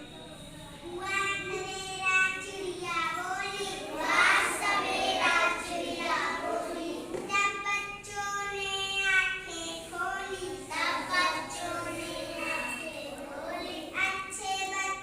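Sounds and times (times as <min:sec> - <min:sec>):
girl singing: 0:00.9 - 0:15.0.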